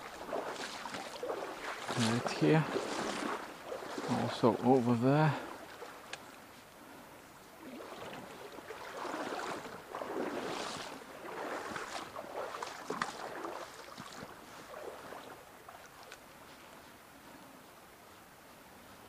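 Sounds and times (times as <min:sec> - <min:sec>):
water sloshing from wading legs: 0:00.0 - 0:17.0
stream flowing: 0:00.0 - 0:19.0.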